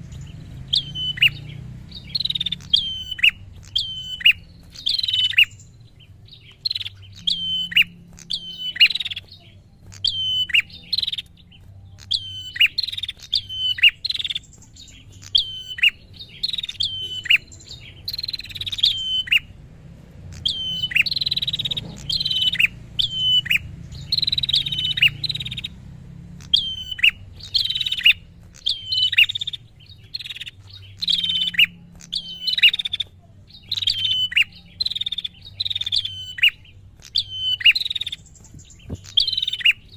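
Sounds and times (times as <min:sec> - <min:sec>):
bird singing sharp high calls: 0:00.0 - 0:39.9.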